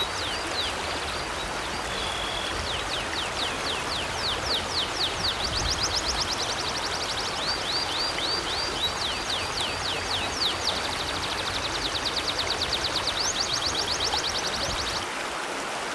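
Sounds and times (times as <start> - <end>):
river flowing: 0.0 - 15.9.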